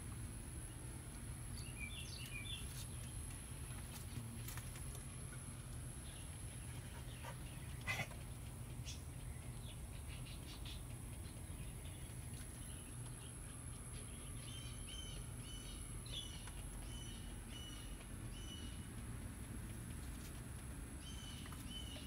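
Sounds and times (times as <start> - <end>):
lovebirds chirping: 0.6 - 3.8, 5.0 - 19.3, 20.9 - 22.0.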